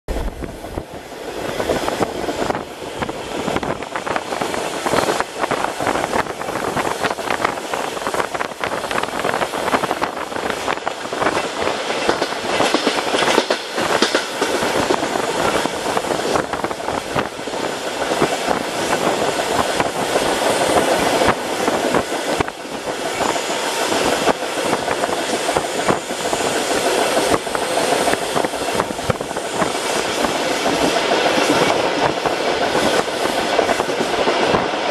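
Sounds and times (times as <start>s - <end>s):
train wheel and rail noise: 0.1s - 34.9s
wheels knocking on track: 1.6s - 34.9s.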